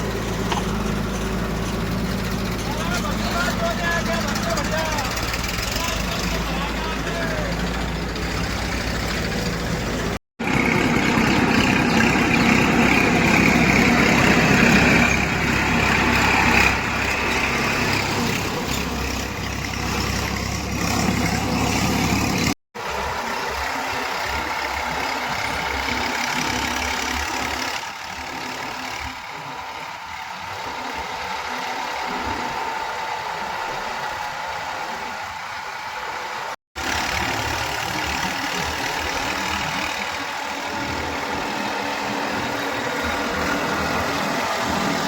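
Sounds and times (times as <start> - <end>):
heavy diesel machinery engines: 0.0 - 45.0.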